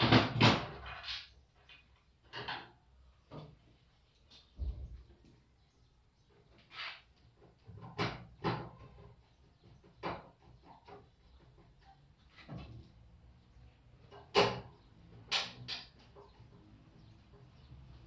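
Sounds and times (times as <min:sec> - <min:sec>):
washing machine parts knocking and clattering: 0:00.0 - 0:03.6, 0:04.3 - 0:05.3, 0:07.3 - 0:13.1, 0:14.0 - 0:18.0.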